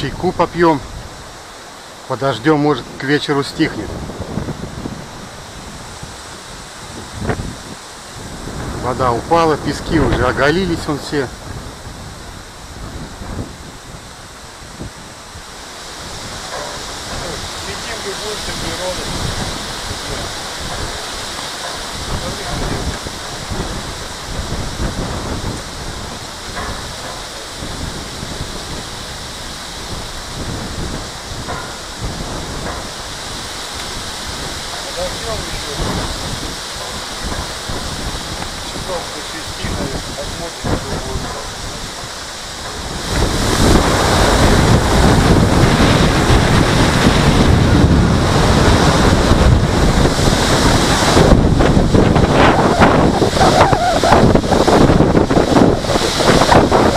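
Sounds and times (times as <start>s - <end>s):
strong storm wind gusting: 0.0s - 56.9s
wind buffeting microphone: 0.0s - 56.9s.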